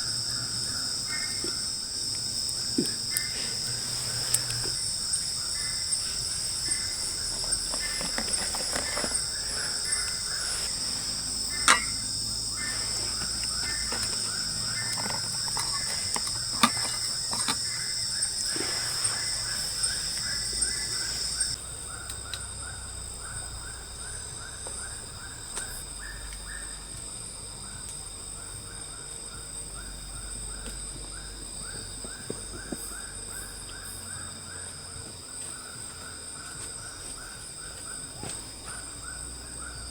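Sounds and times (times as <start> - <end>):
cicadas and crickets droning: 0.0 - 39.9.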